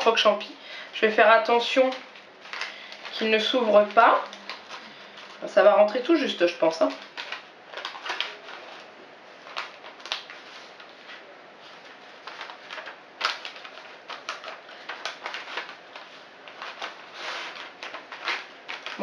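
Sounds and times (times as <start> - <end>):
plastic bag rustling and clicking: 1.7 - 19.0.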